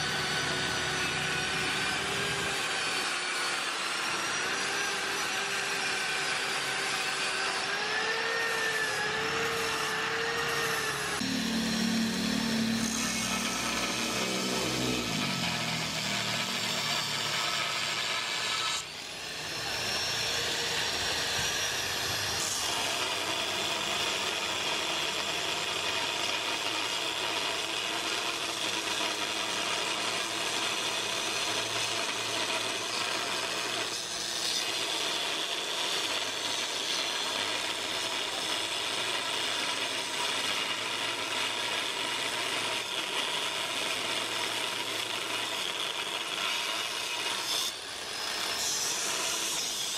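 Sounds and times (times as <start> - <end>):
angle grinder cutting steel: 0.0 - 49.9.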